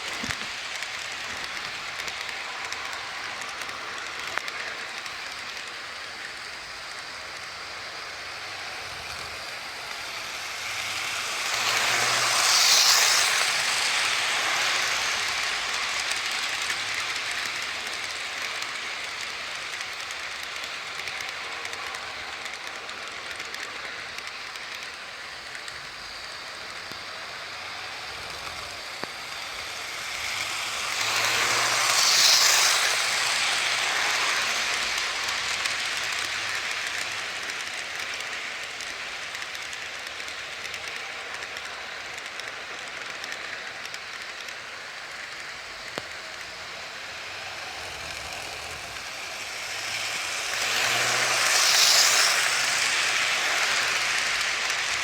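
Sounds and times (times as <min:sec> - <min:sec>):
model train rolling on track: 0:00.0 - 0:55.0.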